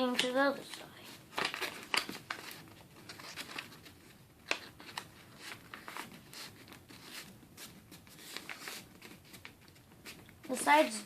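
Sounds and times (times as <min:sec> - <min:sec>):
sharp paper crackle: 0:00.0 - 0:10.6
paper crinkling and rustling: 0:00.0 - 0:11.0.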